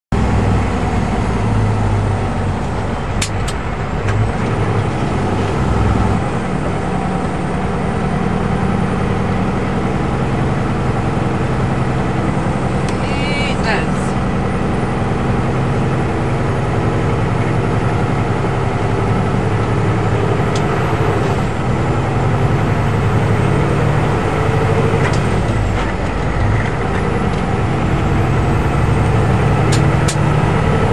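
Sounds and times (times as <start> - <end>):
diesel truck engine droning: 0.1 - 30.9.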